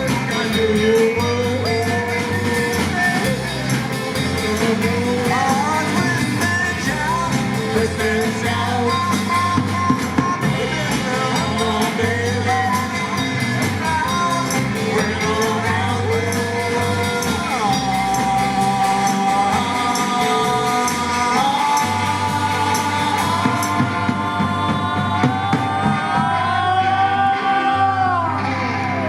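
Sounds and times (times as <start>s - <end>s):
steady drum beat: 0.0s - 27.3s
rock and roll band playing: 0.0s - 29.0s.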